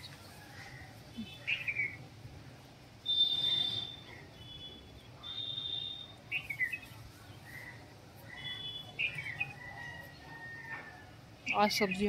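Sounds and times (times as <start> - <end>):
birds calling: 0.0 - 2.1, 3.0 - 10.8.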